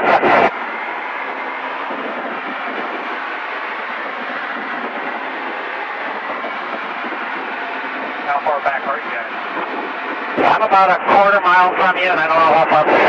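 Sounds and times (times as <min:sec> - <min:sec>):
aircraft engine and propeller drone: 0:00.0 - 0:13.0.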